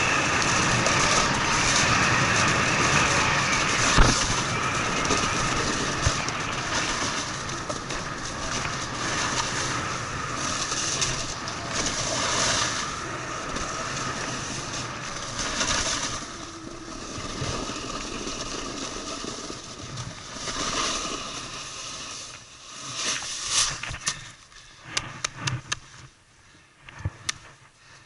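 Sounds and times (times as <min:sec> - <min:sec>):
snowboard sliding over snow: 0:00.0 - 0:28.0.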